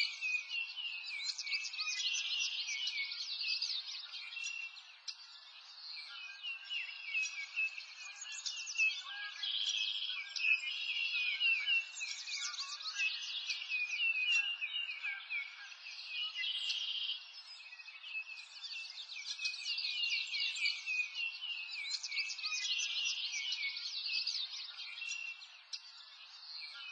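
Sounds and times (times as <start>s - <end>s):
small birds chirping and singing: 0.0s - 26.9s.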